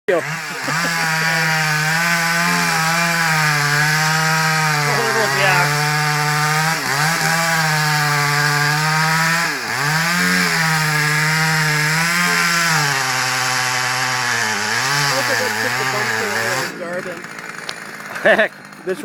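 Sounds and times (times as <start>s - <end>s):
chainsaw cutting into tree: 0.1s - 19.0s.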